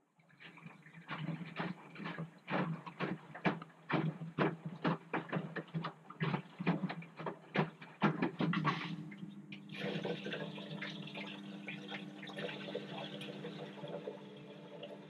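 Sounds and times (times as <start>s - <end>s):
wet laundry tumbling in drum: 0.3s - 15.0s
washing machine motor hum: 0.4s - 15.0s.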